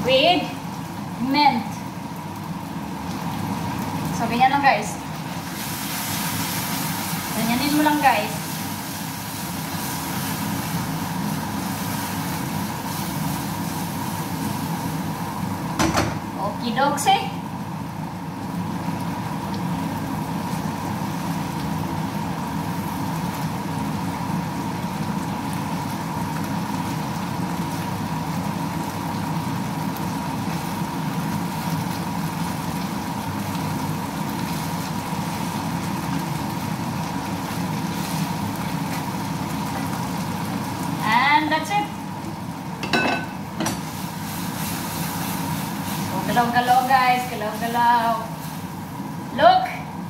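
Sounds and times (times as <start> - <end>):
food sizzling in a frying pan: 0.0 - 50.0
range hood fan humming: 0.0 - 50.0.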